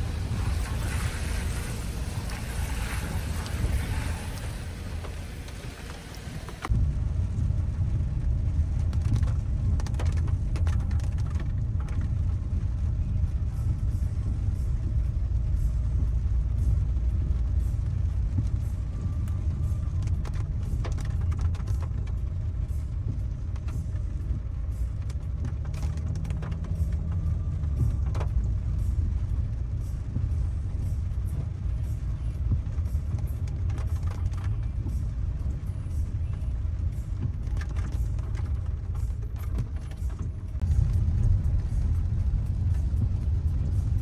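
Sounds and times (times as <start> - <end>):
car engine and tyre rumble: 0.0 - 44.0
raindrops tapping windshield: 0.0 - 44.0.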